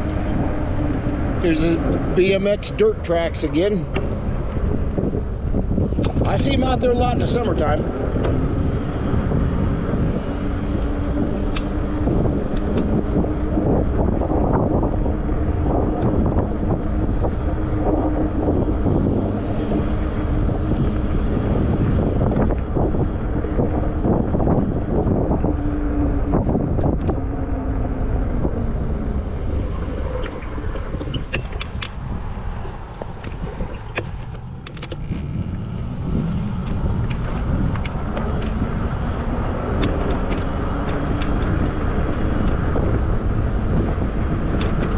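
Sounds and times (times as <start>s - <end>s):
tires rumbling on path: 0.0s - 44.9s
wind buffeting microphone: 0.0s - 44.9s.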